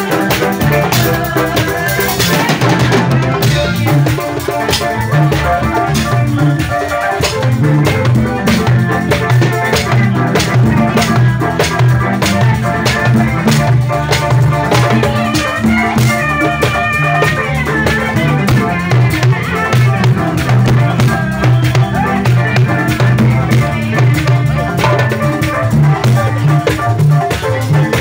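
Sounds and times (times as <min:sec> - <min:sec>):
higher pitched instrument parts: 0:00.0 - 0:26.9
electric bass line: 0:00.0 - 0:28.0
steady drum beat: 0:00.0 - 0:28.0.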